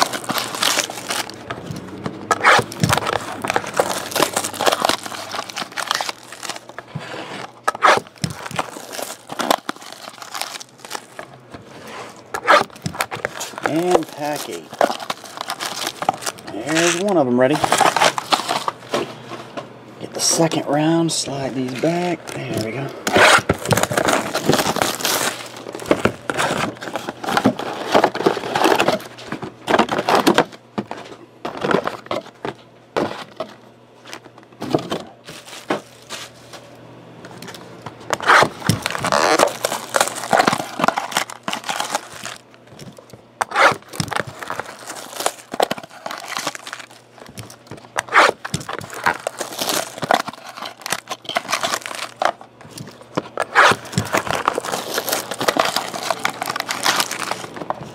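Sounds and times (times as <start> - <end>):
cardboard boxes being torn open: 0.0 - 18.8, 21.6 - 30.6, 34.1 - 36.4, 38.1 - 57.9
foil card packs crinkling: 0.0 - 19.3, 20.0 - 57.9.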